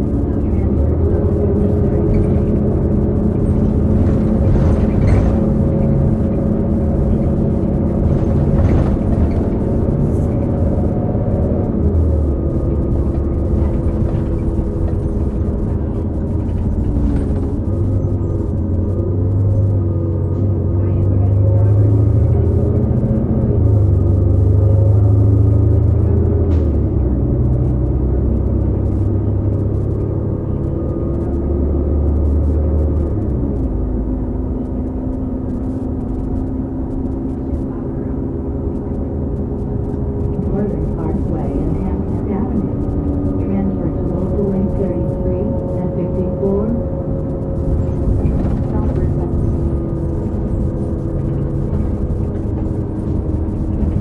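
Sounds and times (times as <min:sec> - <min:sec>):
transmission whining tones: 0:00.0 - 0:20.3, 0:27.5 - 0:54.0
bus engine rumbling: 0:00.0 - 0:54.0.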